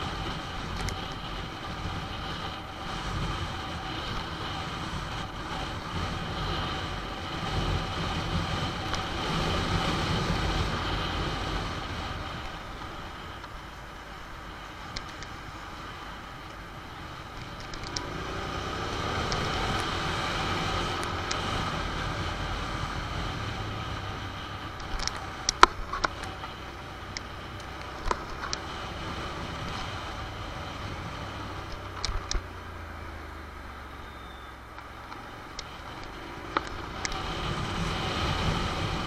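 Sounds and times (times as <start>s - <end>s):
wind noise: 0.0s - 34.5s, 35.2s - 39.0s
motorcycle engine running: 0.0s - 39.0s.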